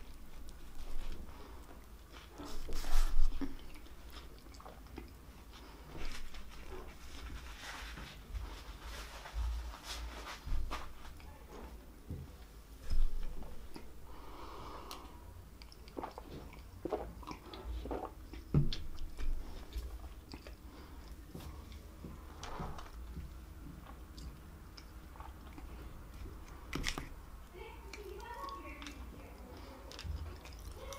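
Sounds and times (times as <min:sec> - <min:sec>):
woman chewing and crunching food: 0:00.0 - 0:09.1, 0:12.4 - 0:30.9.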